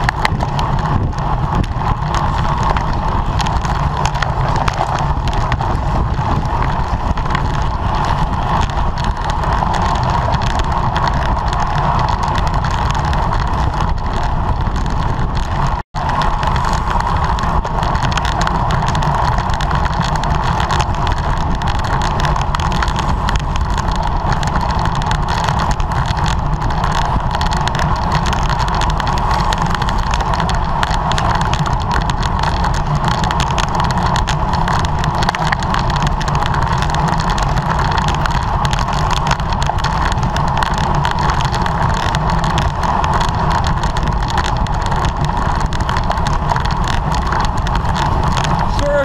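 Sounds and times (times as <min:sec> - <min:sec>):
bicycle road noise: 0:00.0 - 0:49.0
wind buffeting microphone: 0:00.0 - 0:49.0.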